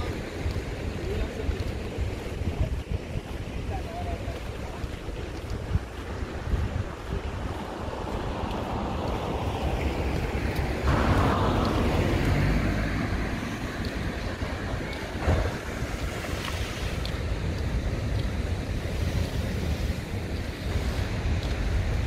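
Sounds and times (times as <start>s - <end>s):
surf washing over rocks: 0.0s - 22.0s
wind rumbling on microphone: 0.0s - 22.0s.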